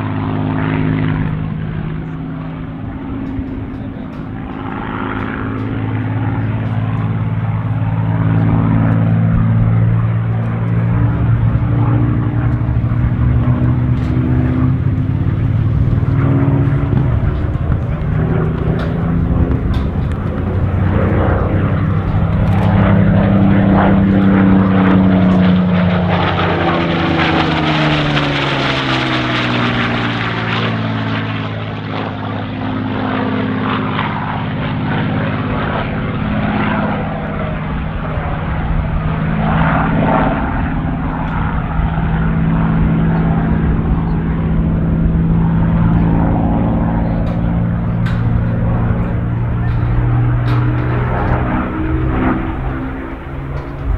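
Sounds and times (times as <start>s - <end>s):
propeller plane engine in flight: 0.0s - 53.9s.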